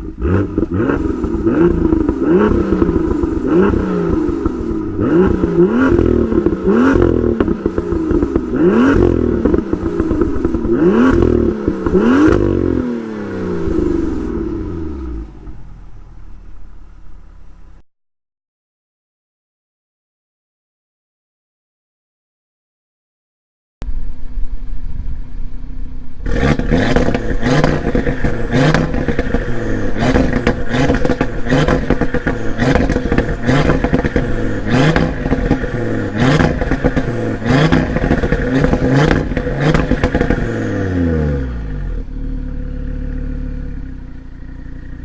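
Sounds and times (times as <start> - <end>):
exhaust crackles: 0.0 - 17.8, 23.8 - 45.0
sports car engine revving: 0.0 - 17.8, 25.0 - 45.0.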